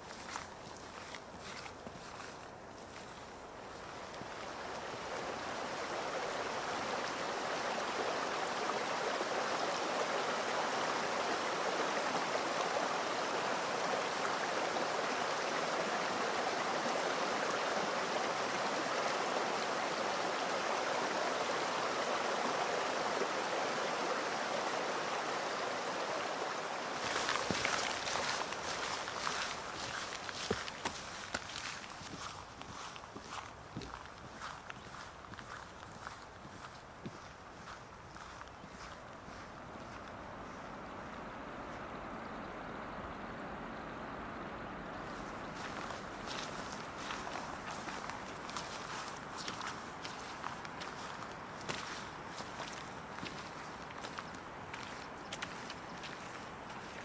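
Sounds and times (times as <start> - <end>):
stream rushing over stones: 0.0 - 41.8, 45.0 - 57.0.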